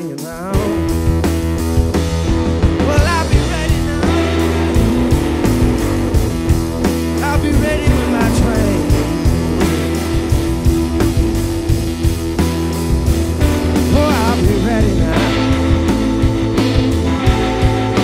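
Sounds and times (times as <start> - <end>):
drum kit with cymbals: 0.0 - 18.0
electric guitar with bent notes: 0.0 - 18.0.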